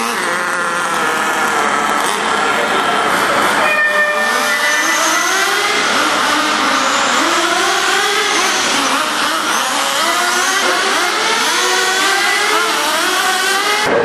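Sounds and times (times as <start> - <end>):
rc car motors high-pitched: 0.0 - 13.9.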